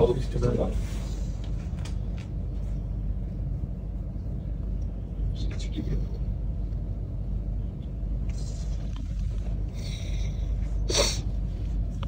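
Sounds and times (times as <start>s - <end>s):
low room noise rumble: 0.0s - 12.0s.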